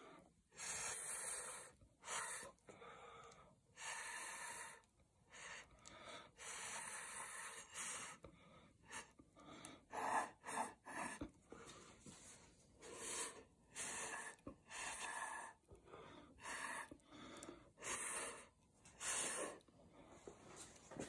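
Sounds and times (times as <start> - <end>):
breathy puffs through a straw: 0.0 - 19.7.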